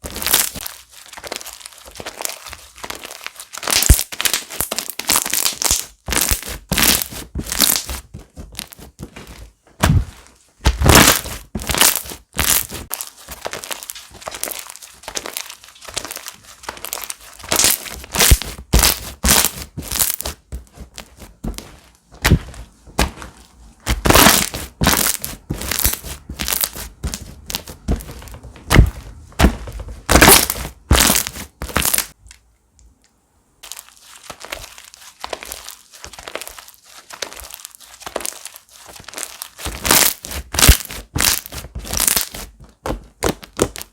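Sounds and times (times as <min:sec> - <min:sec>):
slime crackling and popping: 0:00.0 - 0:09.0, 0:09.8 - 0:32.2, 0:33.6 - 0:42.5, 0:43.1 - 0:43.9.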